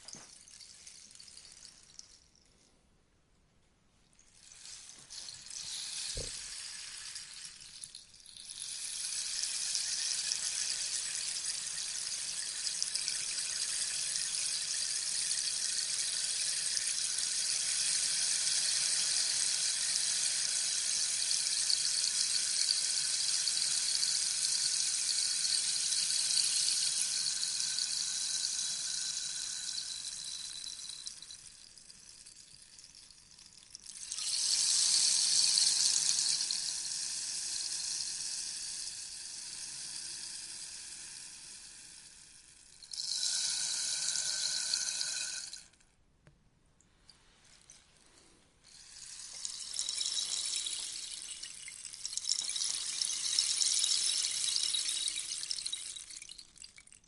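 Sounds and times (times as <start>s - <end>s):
rainstick beads trickling: 0.0s - 2.5s, 4.2s - 45.8s, 46.9s - 57.0s.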